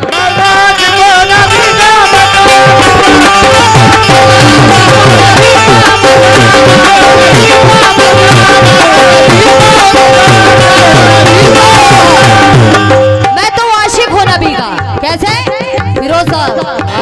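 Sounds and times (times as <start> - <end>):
harmonium holding notes: 0.0 - 17.0
tabla rhythm: 0.0 - 17.0.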